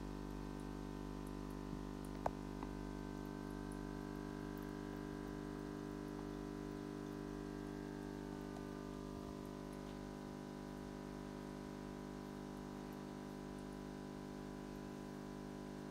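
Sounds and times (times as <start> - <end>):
aquarium air pump humming: 0.0 - 15.9.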